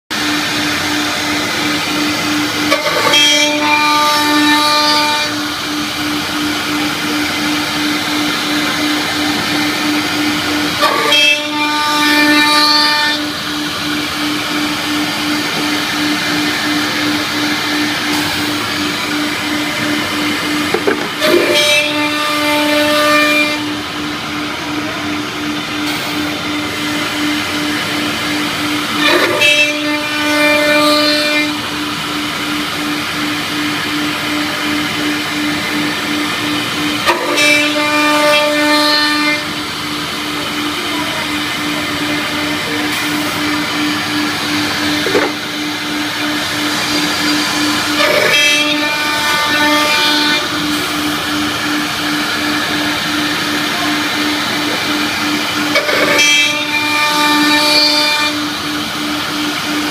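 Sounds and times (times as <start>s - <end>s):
drilling machine humming: 0.1s - 59.9s
machine whine: 0.1s - 59.9s.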